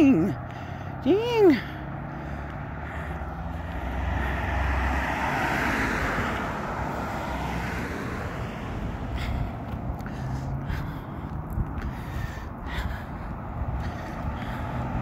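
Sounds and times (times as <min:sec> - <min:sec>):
vehicle passing by: 0:00.0 - 0:15.0.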